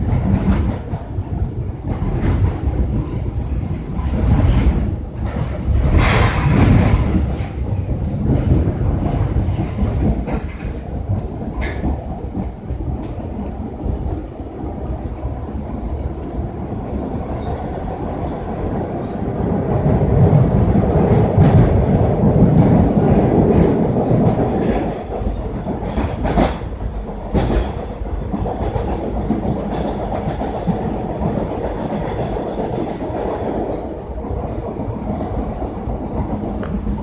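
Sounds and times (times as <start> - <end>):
clickety-clack over rail joints: 0.0 - 37.0
wheels rumbling on rail: 0.0 - 37.0.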